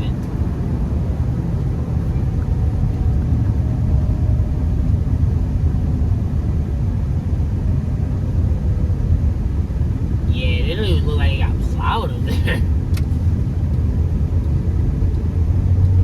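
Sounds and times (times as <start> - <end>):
car tyres and engine rumbling: 0.0 - 16.0.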